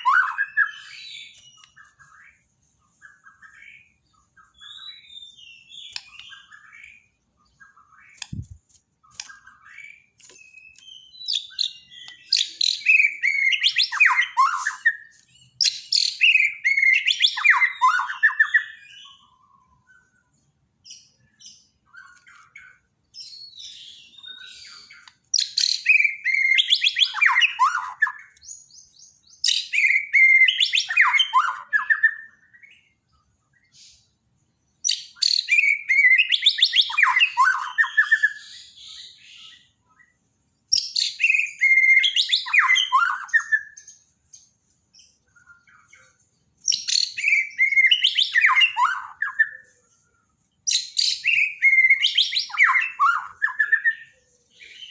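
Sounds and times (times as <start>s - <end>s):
soft bird chirps: 0.0s - 54.9s
songbird singing: 0.0s - 54.9s.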